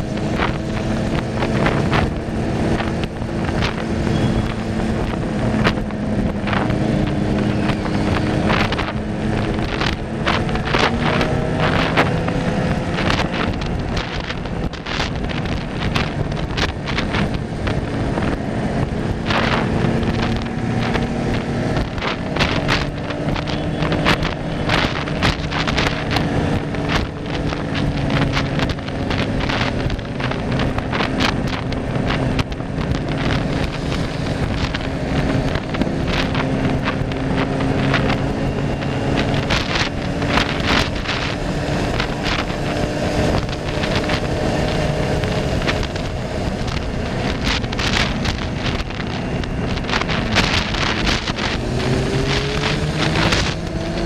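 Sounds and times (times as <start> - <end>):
continuous hum: 0.0 - 54.0
wind buffeting microphone: 0.0 - 54.0.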